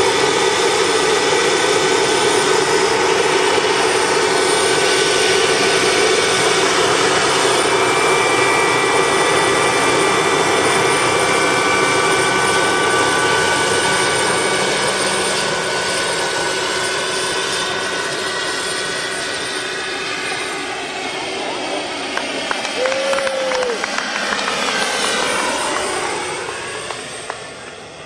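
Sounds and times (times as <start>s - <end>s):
model helicopter engine and rotor: 0.0s - 28.0s.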